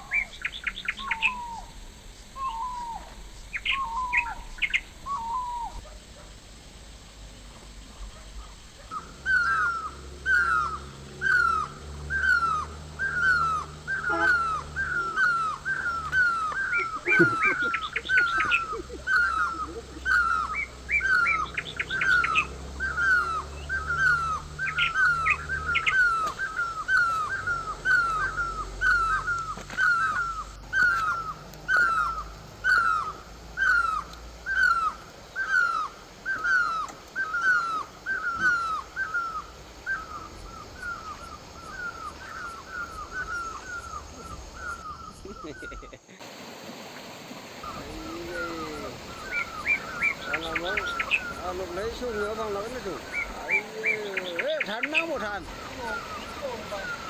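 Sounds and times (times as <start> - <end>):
bird calling downslurred note: 0.0 - 6.0, 7.9 - 46.4, 47.4 - 57.0
higher bird chirping: 0.0 - 46.4, 47.2 - 57.0.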